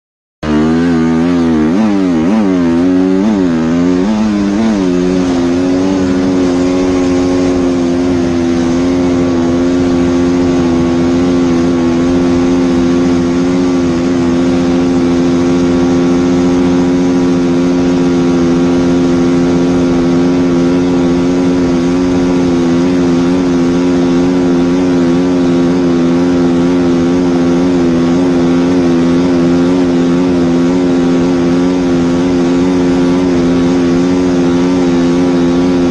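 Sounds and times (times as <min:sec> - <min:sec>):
engine revving: 0:00.4 - 0:35.9.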